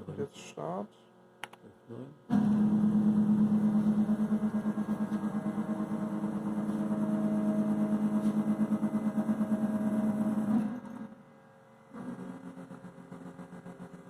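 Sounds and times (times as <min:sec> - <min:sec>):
milling machine humming: 0:02.3 - 0:14.0.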